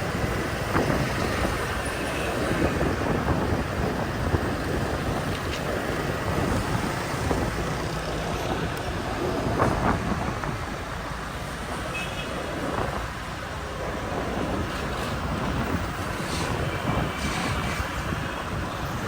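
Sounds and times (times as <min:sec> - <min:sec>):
traffic rumble: 0:00.0 - 0:19.0
wind: 0:00.0 - 0:19.0.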